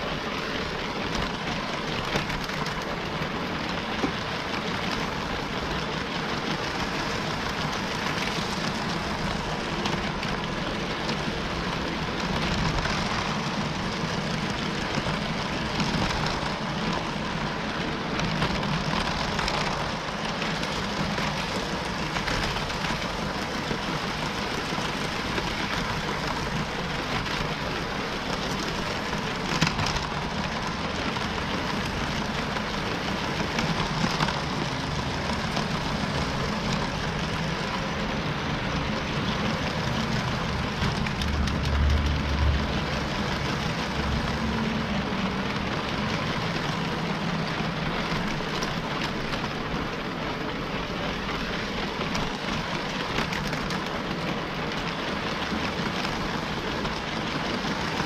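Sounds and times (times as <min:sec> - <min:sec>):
wheels rattling on plastic track: 0:00.0 - 0:58.0.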